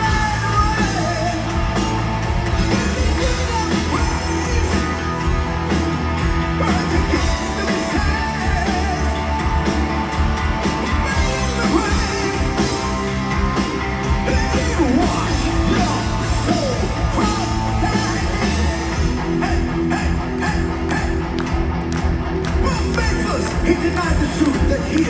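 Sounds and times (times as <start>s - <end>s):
heavy metal band playing: 0.0s - 25.0s.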